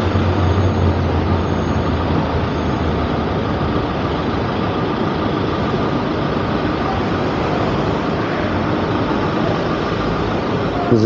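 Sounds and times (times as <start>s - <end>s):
engine running: 0.0s - 11.0s
steady low hum: 0.0s - 11.0s
tyres rolling slowly: 0.0s - 11.0s.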